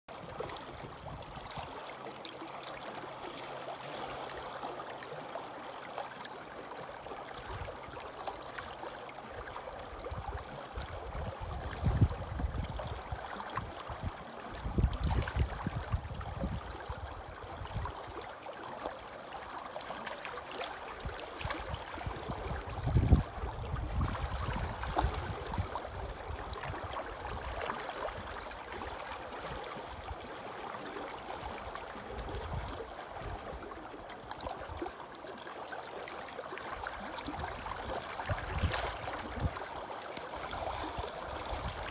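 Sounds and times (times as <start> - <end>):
waves lapping against rocks: 0.1 - 41.9.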